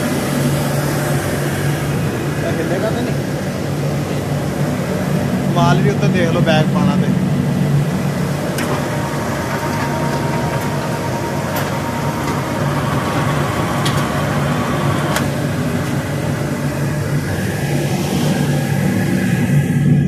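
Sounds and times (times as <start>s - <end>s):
pellet burner mechanical drone: 0.0s - 20.0s.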